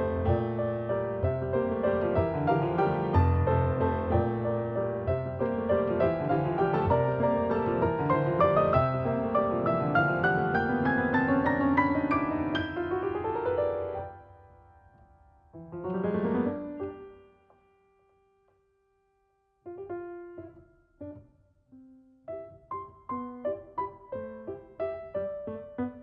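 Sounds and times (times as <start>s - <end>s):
solo piano music: 0.0s - 26.0s.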